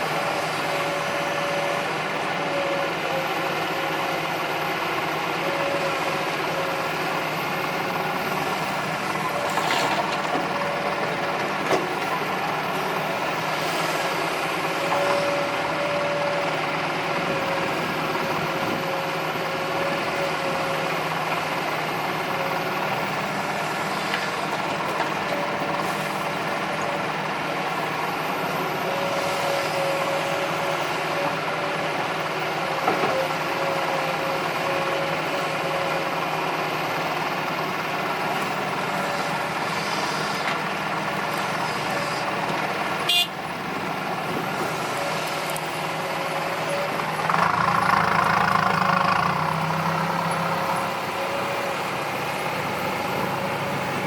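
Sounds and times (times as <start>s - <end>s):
engine whine: 0.0s - 54.0s
heavy diesel engine running: 0.0s - 54.0s.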